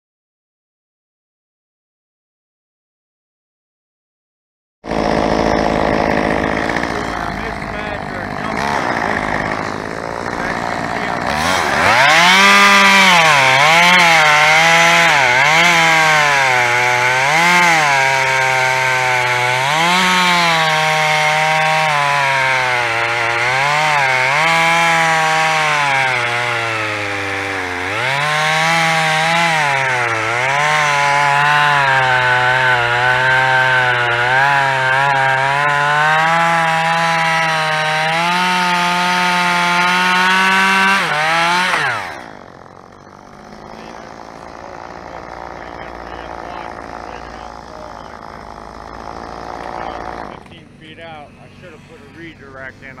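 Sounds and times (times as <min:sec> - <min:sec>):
chainsaw cutting through wood: 0:04.8 - 0:53.0.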